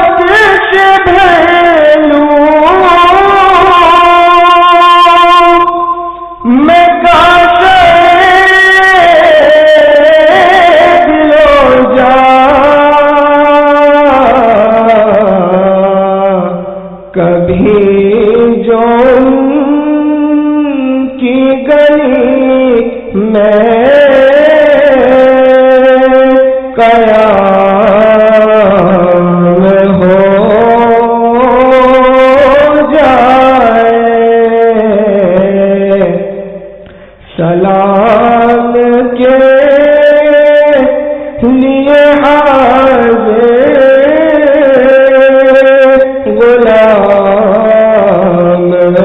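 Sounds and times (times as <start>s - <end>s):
devotional singing: 0.0s - 49.0s.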